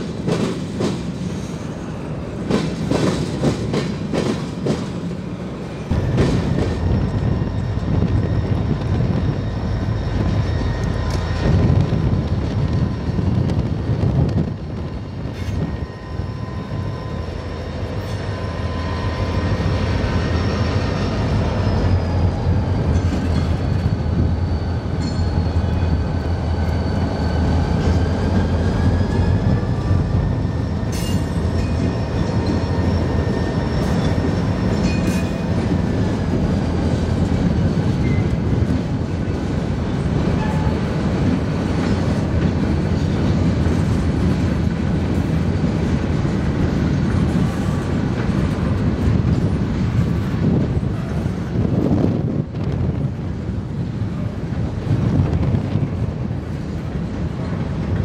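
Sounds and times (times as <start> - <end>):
diesel locomotives rumbling: 0.0 - 58.0
train wheels rolling on rails: 0.0 - 58.0.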